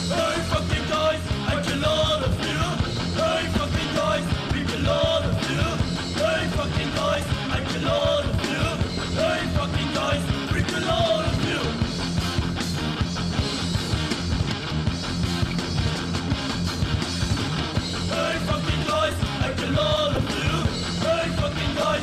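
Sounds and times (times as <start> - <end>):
hardcore punk rock band: 0.0 - 22.0.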